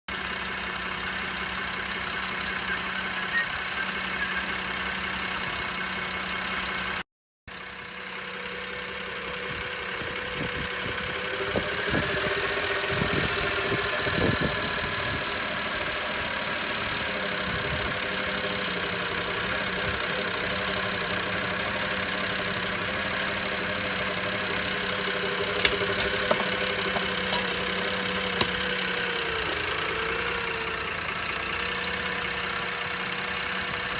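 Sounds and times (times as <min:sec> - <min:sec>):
car engine idling: 0:00.1 - 0:07.0, 0:07.7 - 0:33.9.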